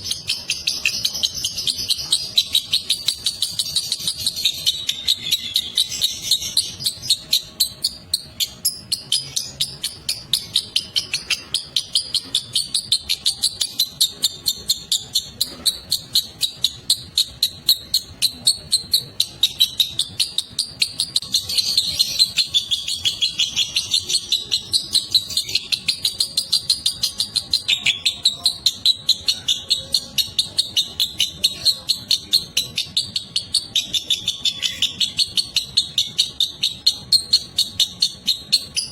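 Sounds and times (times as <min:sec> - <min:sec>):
lovebird chattering: 0:00.0 - 0:38.9.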